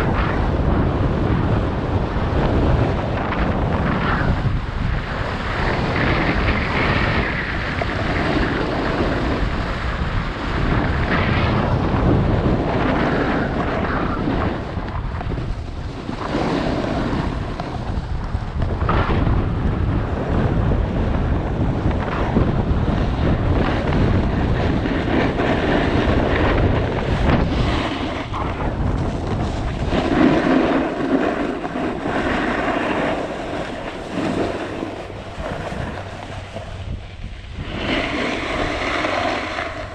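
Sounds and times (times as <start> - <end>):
snowboard scraping over snow: 0.0 - 39.9
wind rushing over microphone: 0.0 - 39.9.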